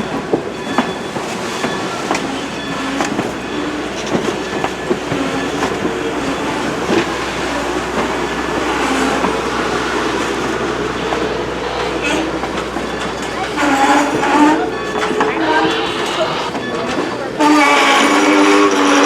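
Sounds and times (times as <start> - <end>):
train wheels clicking over rail joints: 0.0 - 19.0
wheel squeals: 0.0 - 19.0.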